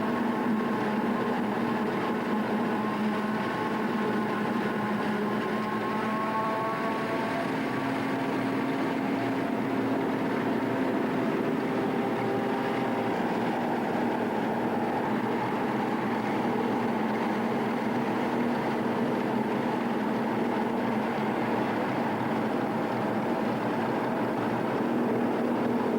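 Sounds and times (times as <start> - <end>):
forage harvester droning: 0.0 - 25.9.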